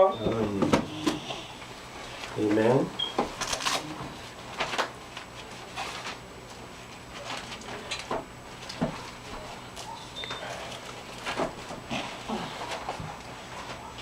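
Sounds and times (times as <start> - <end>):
faint steady hum: 0.0 - 14.0
people moving about in a room: 0.0 - 14.0.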